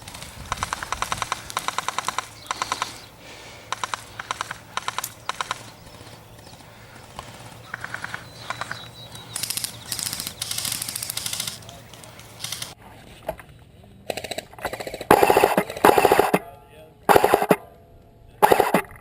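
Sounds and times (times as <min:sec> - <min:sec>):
airsoft rifles full-auto bursts: 0:00.0 - 0:12.8, 0:14.1 - 0:16.4, 0:17.1 - 0:17.6, 0:18.4 - 0:19.0.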